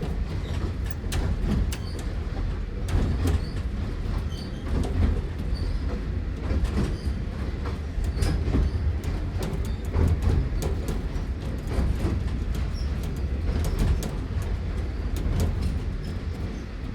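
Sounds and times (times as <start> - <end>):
train carriage rumble: 0.0 - 16.9
wheels clicking over track: 0.0 - 16.9.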